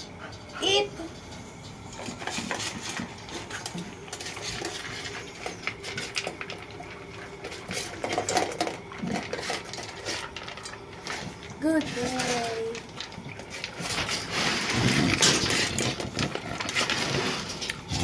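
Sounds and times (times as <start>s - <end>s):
puppy eating from metal bowl: 0.0s - 18.0s.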